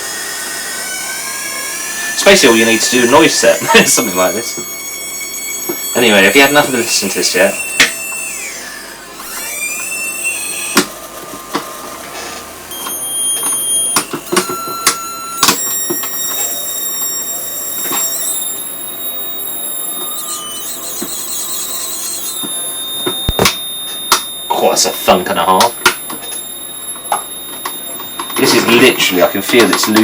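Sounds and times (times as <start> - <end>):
harsh electronic hiss: 0.0 - 30.0
shrill whistling tones: 0.0 - 30.0
electronic clicks and crackles: 1.0 - 30.0.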